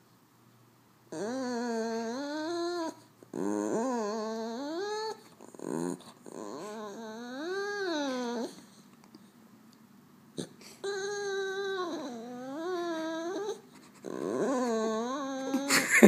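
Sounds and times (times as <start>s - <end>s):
dog whining: 1.1s - 8.9s, 10.4s - 16.0s.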